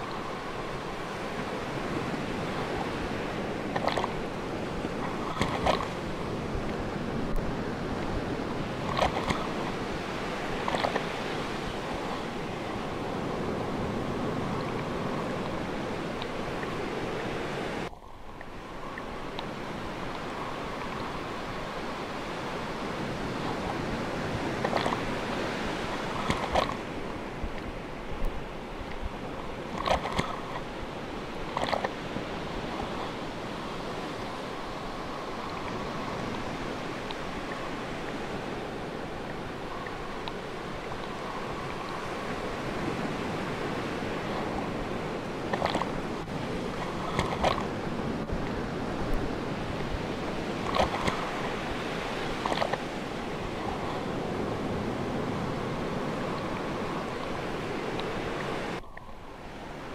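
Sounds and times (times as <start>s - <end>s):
ocean surf washing: 0.0s - 59.9s.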